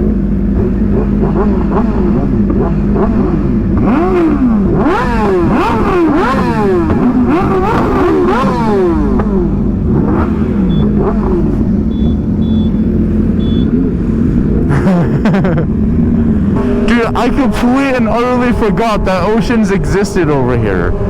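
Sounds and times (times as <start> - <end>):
low wind rumble: 0.0 - 21.0
motorcycle engine revving: 0.0 - 21.0.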